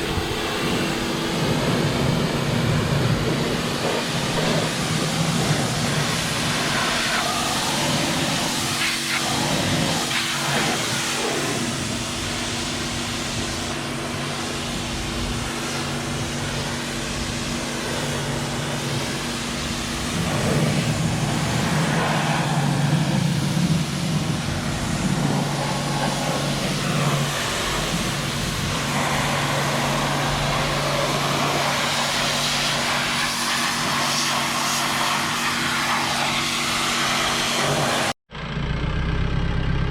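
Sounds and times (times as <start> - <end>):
tractor engine droning: 0.0 - 33.1, 37.8 - 39.9.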